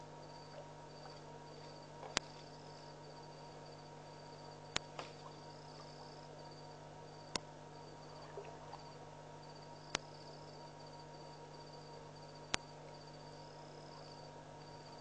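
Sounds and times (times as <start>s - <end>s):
crickets chirping: 0.0s - 15.0s
steady low hum: 0.0s - 15.0s.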